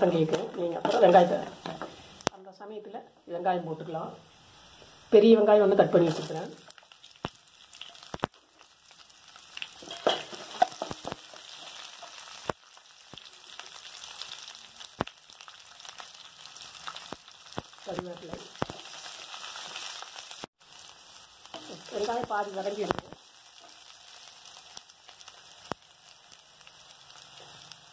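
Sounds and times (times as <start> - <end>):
onions sizzling in hot oil: 0.0 - 27.9.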